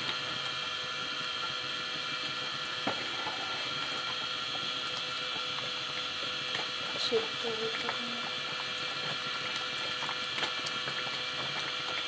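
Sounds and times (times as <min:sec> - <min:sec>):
gas stove hiss and hum: 0:00.0 - 0:12.0
pot simmering: 0:00.0 - 0:12.0.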